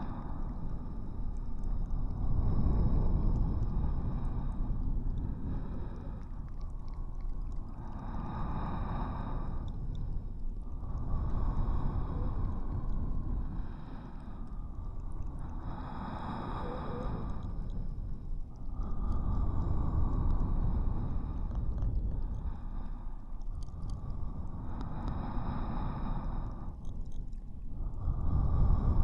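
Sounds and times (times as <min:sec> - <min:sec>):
heavy low rumble: 0:00.0 - 0:25.2.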